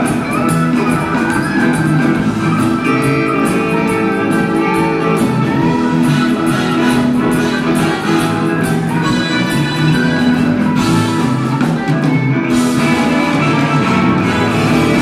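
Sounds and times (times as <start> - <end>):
drum kit with cymbals: 0.0 - 15.0
electric guitars: 0.0 - 15.0
keyboards: 0.0 - 15.0.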